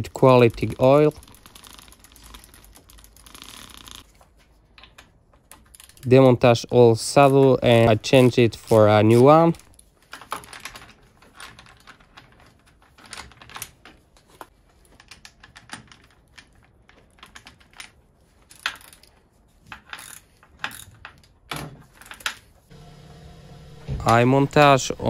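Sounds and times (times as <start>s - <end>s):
metal parts clicking and clattering: 0.4s - 6.2s, 7.1s - 22.6s.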